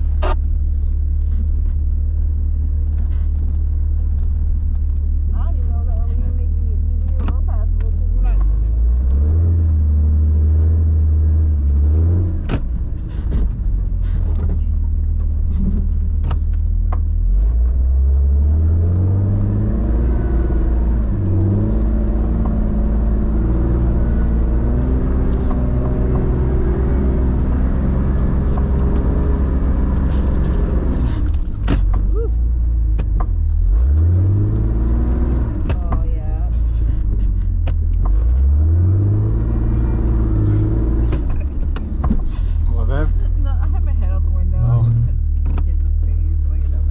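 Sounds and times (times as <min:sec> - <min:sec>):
off-road engine revving: 0:00.0 - 0:46.9.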